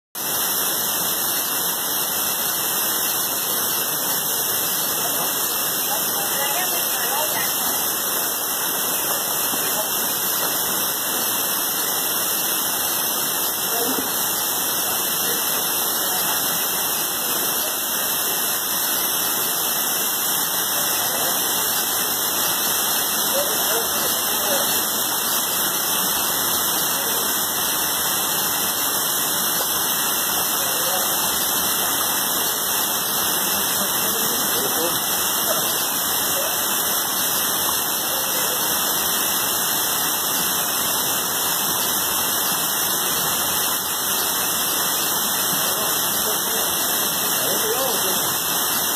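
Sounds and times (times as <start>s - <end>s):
waterfall and river rushing: 0.2s - 48.9s.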